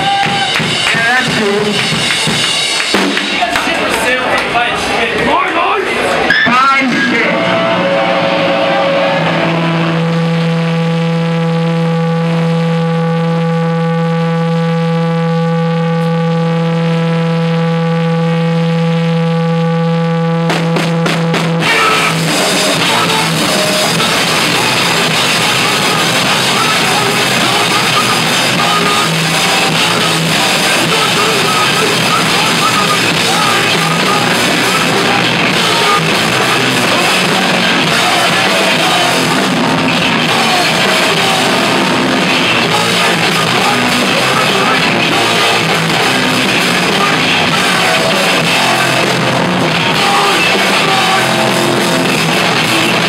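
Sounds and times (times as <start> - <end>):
punk band playing loud: 0.0 - 53.0.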